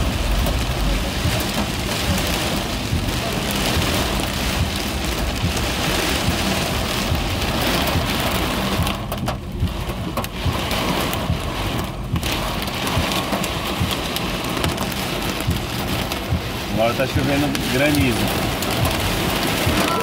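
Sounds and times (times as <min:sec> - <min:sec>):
heavy rain on car roof: 0:00.0 - 0:20.0
low rumble: 0:00.0 - 0:20.0.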